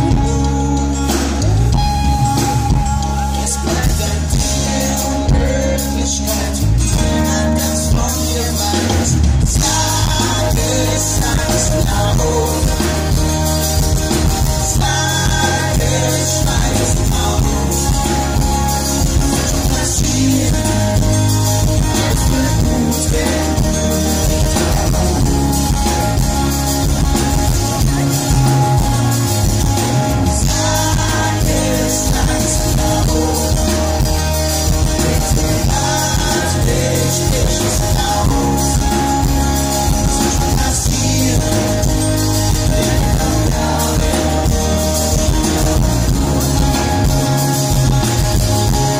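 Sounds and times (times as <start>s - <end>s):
man singing: 0.0s - 48.9s
pop-rock band playing: 0.0s - 48.9s.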